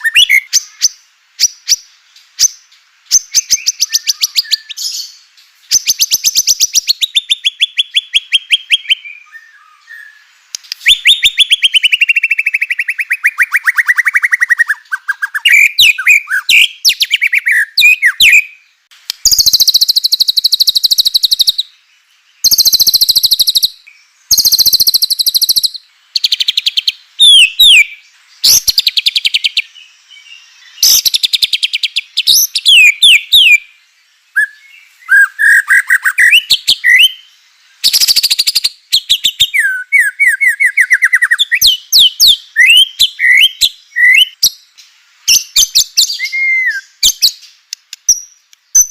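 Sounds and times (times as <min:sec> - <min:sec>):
bird singing trills and whistles: 0:00.0 - 0:48.9.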